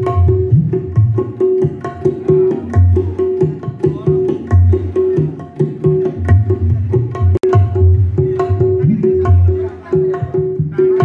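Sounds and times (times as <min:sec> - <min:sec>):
loud music with hand drums and bass: 0:00.0 - 0:11.0.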